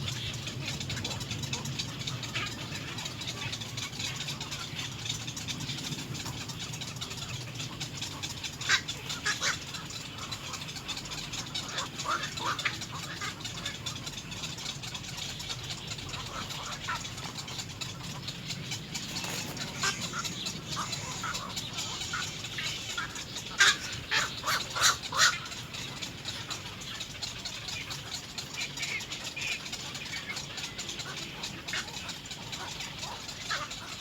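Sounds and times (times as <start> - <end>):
egret chicks begging calls: 0.0 - 34.0.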